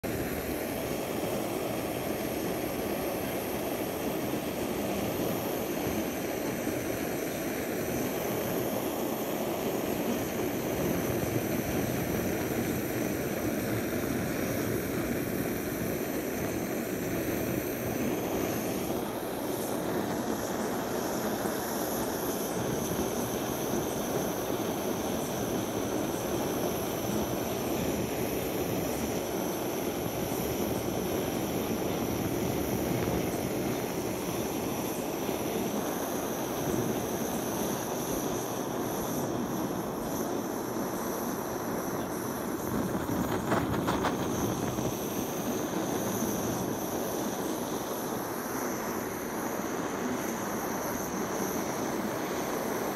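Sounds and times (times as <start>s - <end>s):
blowtorch flame rushing: 0.0s - 52.9s.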